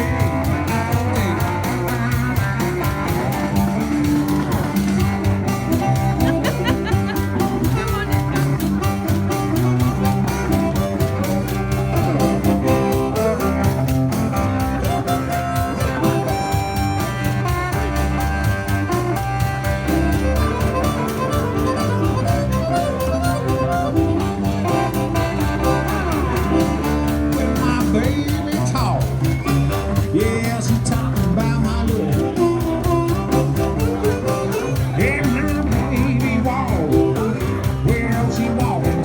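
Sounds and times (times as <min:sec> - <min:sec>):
fast percussion beat: 0:00.0 - 0:39.0
sustained instrumental notes: 0:00.0 - 0:39.0.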